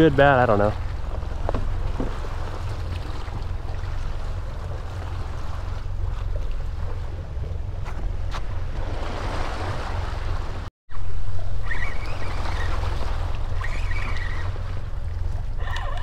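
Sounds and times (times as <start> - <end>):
wind and sea noise: 0.0 - 16.0
wind rumbling on microphone: 0.0 - 16.0.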